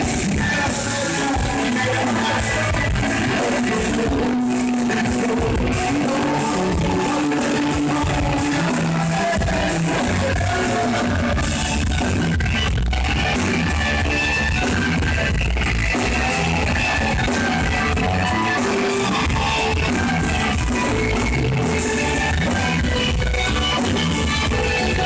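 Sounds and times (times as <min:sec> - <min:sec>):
drum kit: 0:00.0 - 0:25.0
electric guitar: 0:00.0 - 0:25.0.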